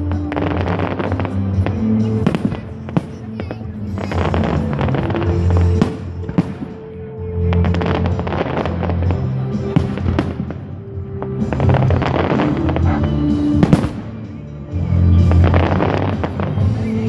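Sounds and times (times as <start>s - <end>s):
fireworks bangs and crackles: 0.0s - 17.0s
music with low sustained notes: 0.0s - 17.0s.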